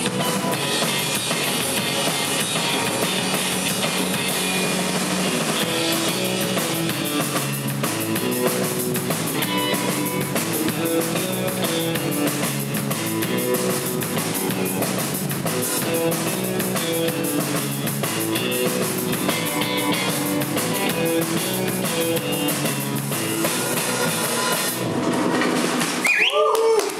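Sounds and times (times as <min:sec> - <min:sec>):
electric bass: 0:00.0 - 0:25.5
electric guitar: 0:00.0 - 0:26.0
drum kit beat: 0:00.0 - 0:26.5.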